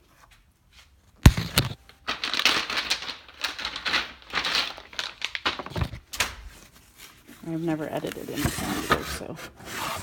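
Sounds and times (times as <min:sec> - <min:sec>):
cardboard and plastic crinkling: 0:01.2 - 0:10.0.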